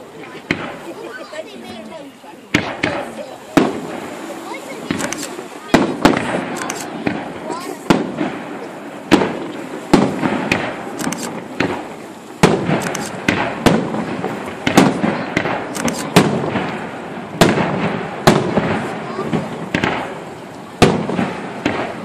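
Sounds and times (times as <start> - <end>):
firework crackle and rumble: 0.0 - 22.0
firework shells bursting: 2.5 - 22.0.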